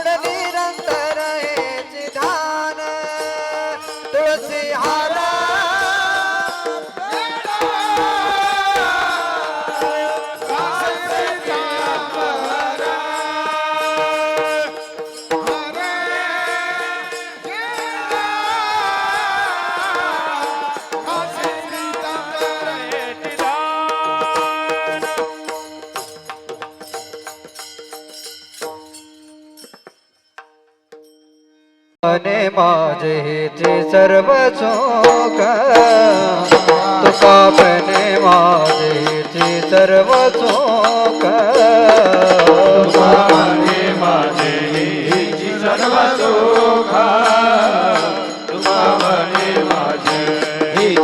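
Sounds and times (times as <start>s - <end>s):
man singing devotional song: 0.0s - 28.8s, 32.0s - 51.0s
tabla playing: 0.0s - 31.2s, 33.5s - 51.0s.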